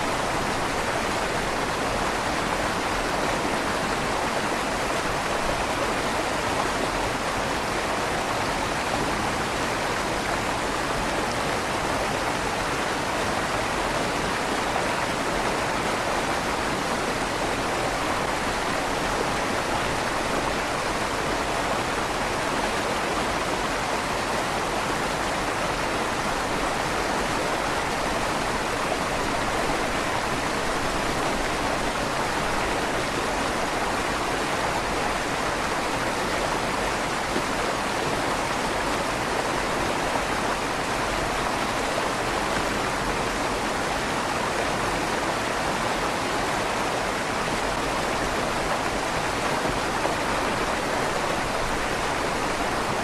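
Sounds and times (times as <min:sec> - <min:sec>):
river water rushing through tunnel: 0:00.0 - 0:53.0.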